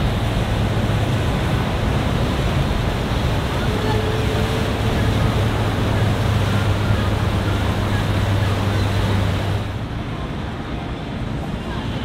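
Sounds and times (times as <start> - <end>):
motorboat engine humming: 0.0 - 9.9
water rushing from bow wake: 0.0 - 12.0.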